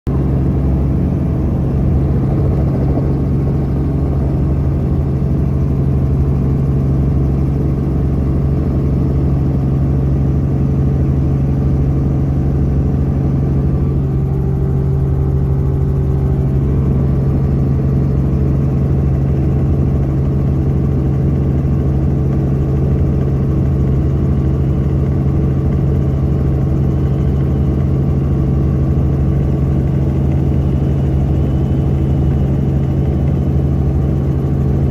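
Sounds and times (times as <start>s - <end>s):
helicopter engine and rotors: 0.1s - 34.9s.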